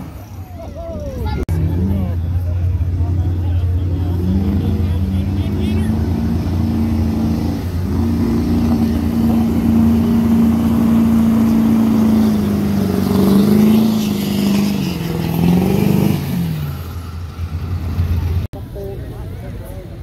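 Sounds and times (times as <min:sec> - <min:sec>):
truck engine at high revs: 0:00.0 - 0:18.5.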